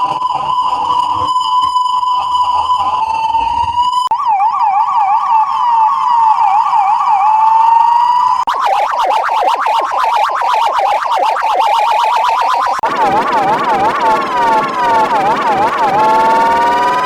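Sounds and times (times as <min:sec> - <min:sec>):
ambulance siren: 0:00.0 - 0:17.0.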